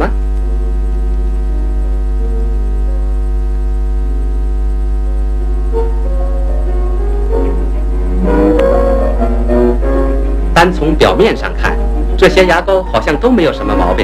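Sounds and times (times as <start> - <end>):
faint soft background music: 0.0 - 14.0
loud low soundtrack hum: 0.0 - 14.0.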